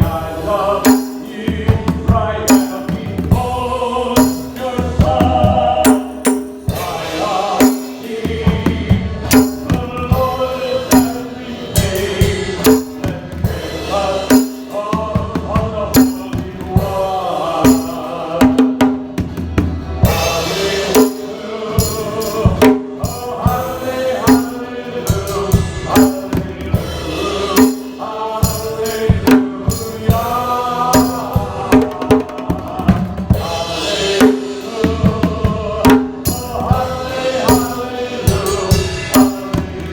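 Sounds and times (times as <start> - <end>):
choir singing a hymn: 0.0 - 39.9
hand drums and percussion: 0.0 - 39.9.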